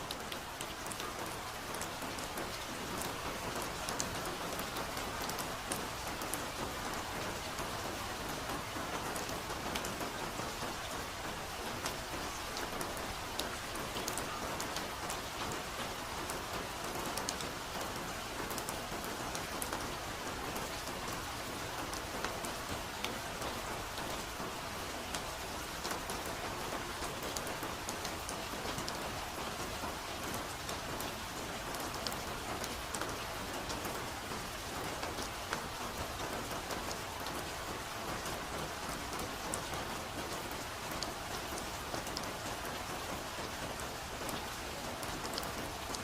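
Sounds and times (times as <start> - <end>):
rain on leaves: 0.0 - 46.0.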